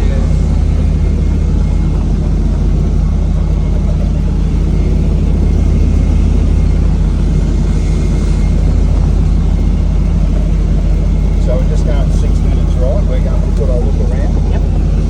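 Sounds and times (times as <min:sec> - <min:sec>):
faint thin whine: 0:00.0 - 0:15.0
helicopter rotor and engine drone: 0:00.0 - 0:15.0.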